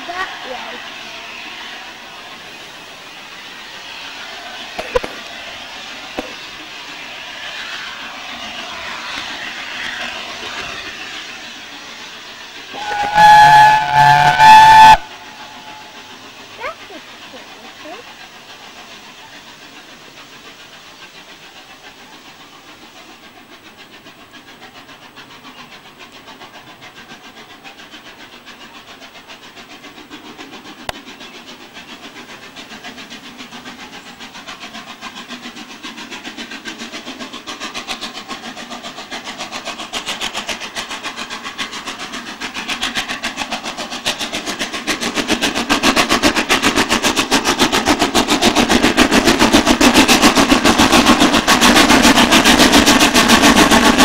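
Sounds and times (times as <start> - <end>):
steam locomotive exhaust beats: 0.0 - 54.0.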